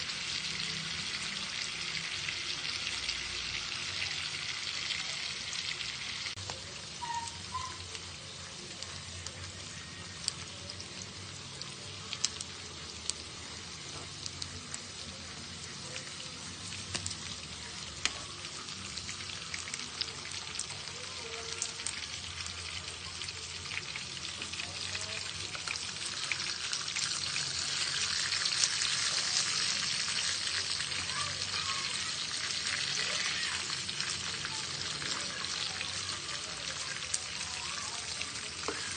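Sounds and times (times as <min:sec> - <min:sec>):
meat sizzling: 0:00.0 - 0:38.9.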